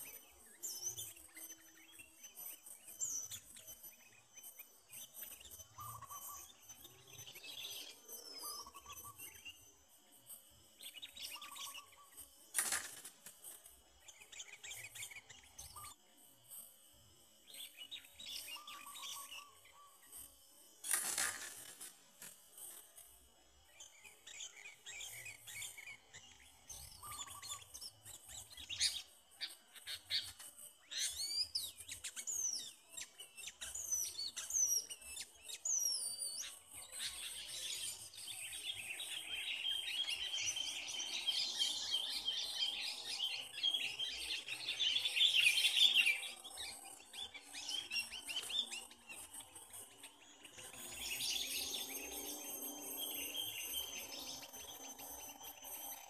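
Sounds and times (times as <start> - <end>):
insect trill: 0.0 - 56.0
small birds chirping: 0.0 - 56.0.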